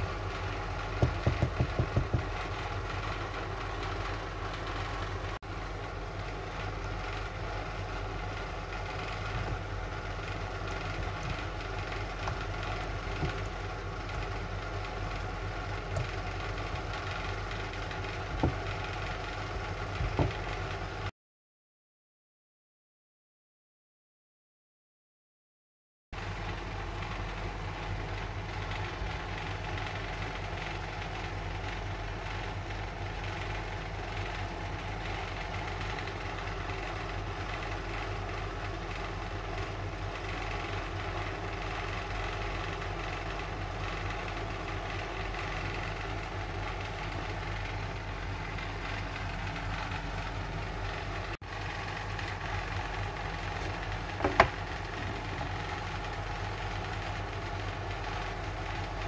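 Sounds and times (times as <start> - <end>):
machine hum: 0.0 - 21.1, 26.2 - 59.0.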